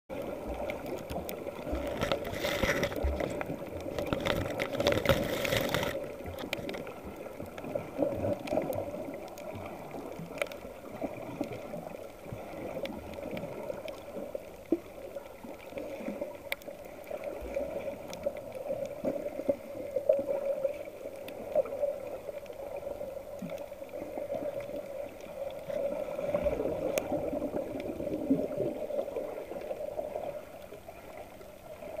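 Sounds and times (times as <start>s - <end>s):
underwater seawater rush: 0.1s - 32.0s.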